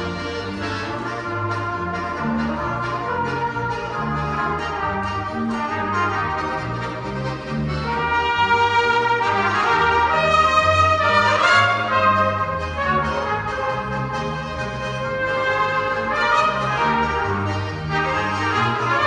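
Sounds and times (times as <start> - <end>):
button accordions: 0.0 - 19.0
double bass notes: 0.0 - 19.0
trumpets playing melody: 0.0 - 19.0.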